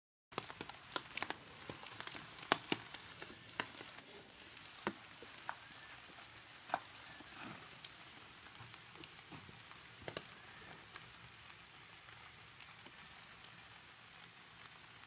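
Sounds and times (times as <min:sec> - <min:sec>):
rain drops tapping on hard surfaces: 0:00.3 - 0:15.0
light steady hiss: 0:00.4 - 0:15.0.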